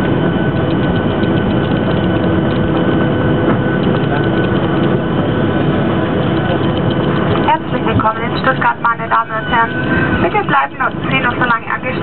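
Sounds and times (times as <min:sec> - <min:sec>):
aircraft engine and rolling noise: 0:00.0 - 0:12.0.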